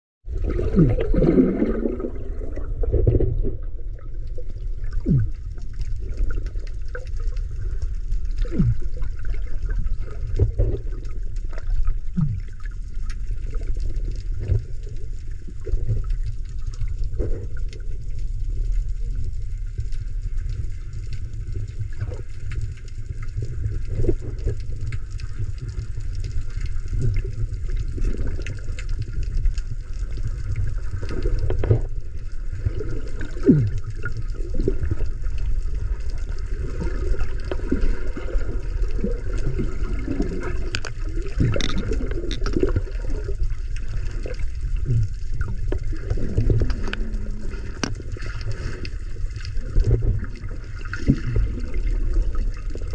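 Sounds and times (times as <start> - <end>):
underwater rumble of moving water: 0.2 - 52.9
water bubbling and gurgling: 0.2 - 52.9.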